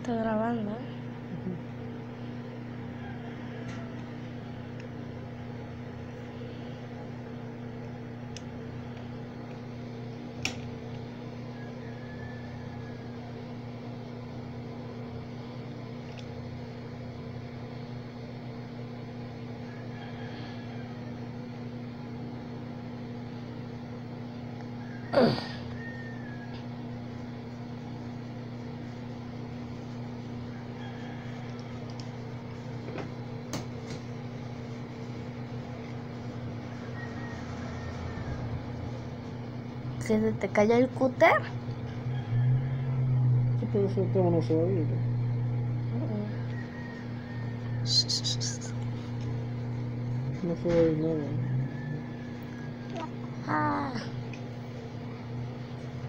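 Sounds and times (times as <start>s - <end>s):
electric fan motor hum: 0.0s - 56.0s.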